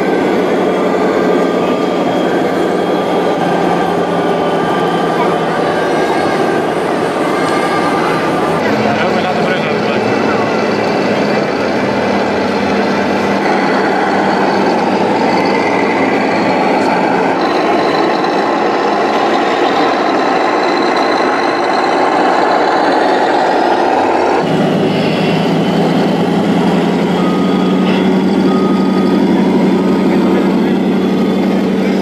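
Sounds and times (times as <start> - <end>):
electronic reversing beeps: 0.0 - 23.8, 24.6 - 32.0
truck engine sound from loudspeakers: 0.0 - 32.0.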